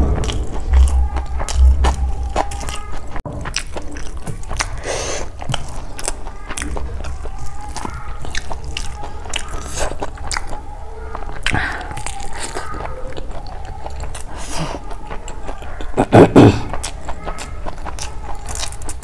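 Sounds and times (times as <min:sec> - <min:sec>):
person chewing wetly: 0:00.0 - 0:19.0.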